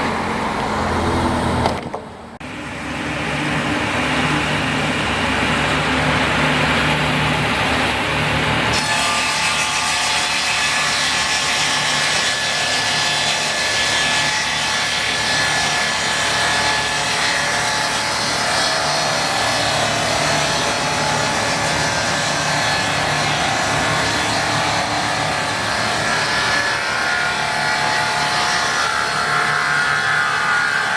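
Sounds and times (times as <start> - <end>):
circular saw sawing timber: 2.4 - 30.9.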